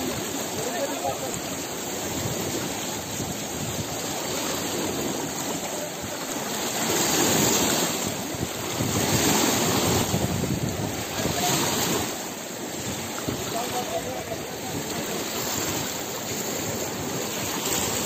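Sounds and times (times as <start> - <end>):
floodwater rushing and churning: 0.0 - 18.0
wind on microphone: 0.0 - 18.0.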